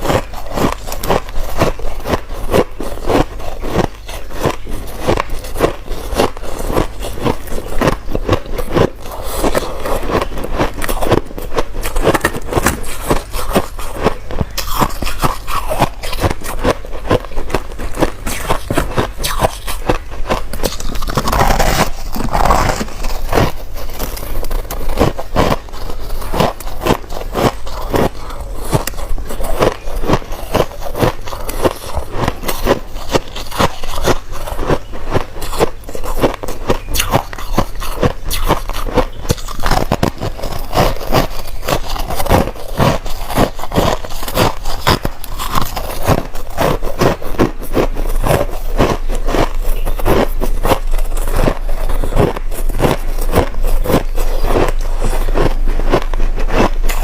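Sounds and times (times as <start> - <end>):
crushed ice being chewed: 0.0 - 57.0.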